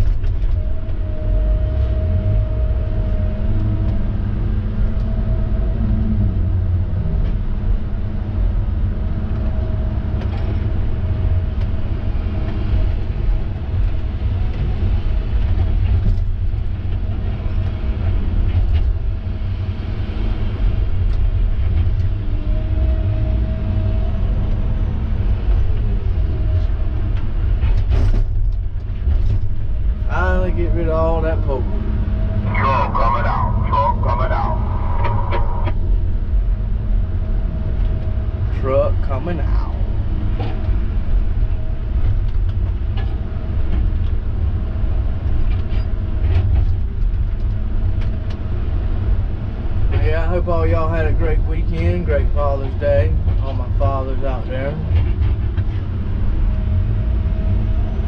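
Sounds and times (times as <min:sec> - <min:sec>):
faint engine hum: 0:00.0 - 0:58.0
heavy vehicle rumble: 0:00.0 - 0:58.0.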